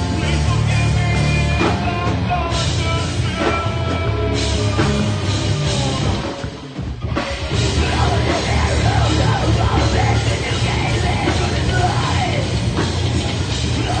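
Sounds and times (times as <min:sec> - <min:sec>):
heavy rock band playing: 0:00.0 - 0:14.0
yelled vocals: 0:00.0 - 0:14.0.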